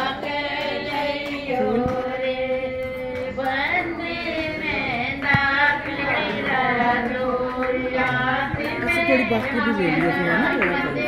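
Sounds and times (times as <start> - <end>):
woman singing with music: 0.0 - 11.0.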